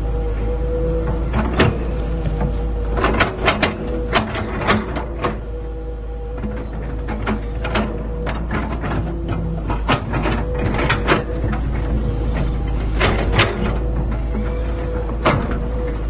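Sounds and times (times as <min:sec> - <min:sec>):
excavator engine hum: 0:00.0 - 0:16.0
metallic knocks and clanks: 0:01.0 - 0:05.5, 0:06.4 - 0:16.0.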